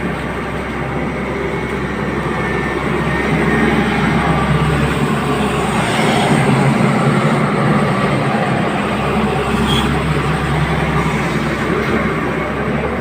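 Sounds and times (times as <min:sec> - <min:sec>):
excavator diesel engine and hydraulics: 0:00.0 - 0:13.0.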